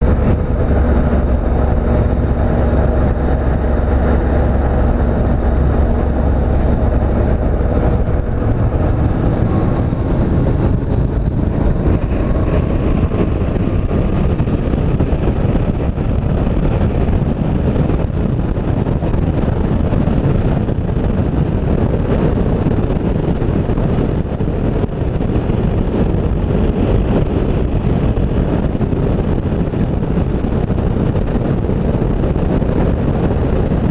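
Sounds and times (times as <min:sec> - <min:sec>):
motorcycle engine: 0:00.0 - 0:33.9
wind rushing over microphone: 0:00.0 - 0:33.9.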